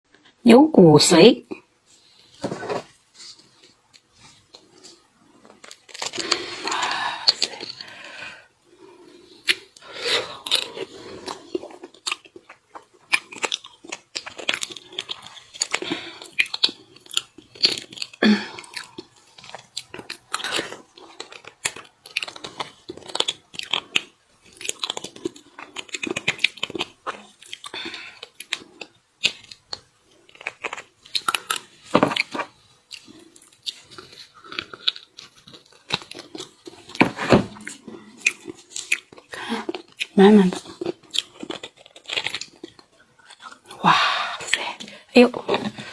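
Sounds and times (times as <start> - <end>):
chewing and biting: 3.2 - 8.2, 9.0 - 43.8.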